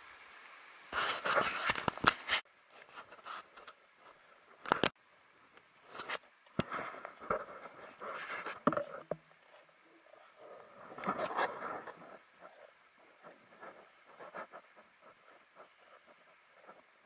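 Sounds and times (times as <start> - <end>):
ski poles planting: 0.9 - 5.0, 5.9 - 16.9.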